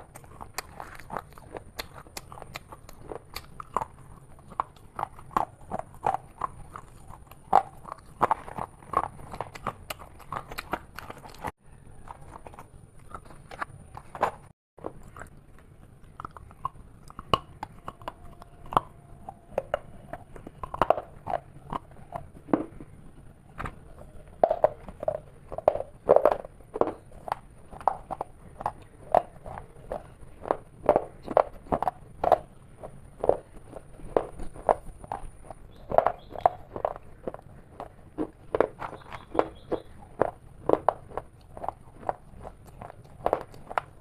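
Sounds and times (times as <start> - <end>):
crunchy food chewing: 0.0 - 44.0.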